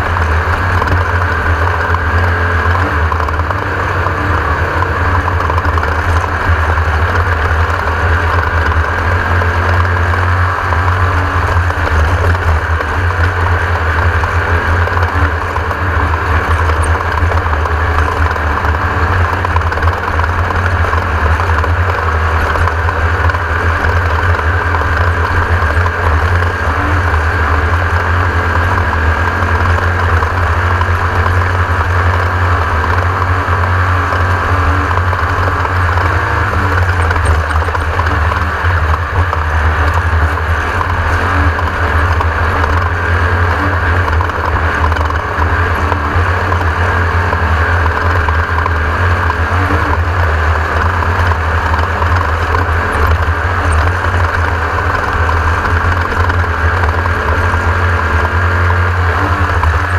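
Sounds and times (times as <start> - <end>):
race buggy engine at speed: 0.0 - 59.9.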